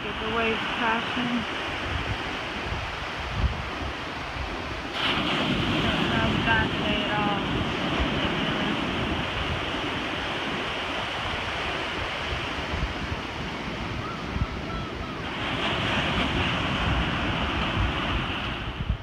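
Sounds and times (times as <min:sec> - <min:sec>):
ocean surf breaking: 0:00.0 - 0:19.0
wind buffeting the microphone: 0:00.0 - 0:19.0.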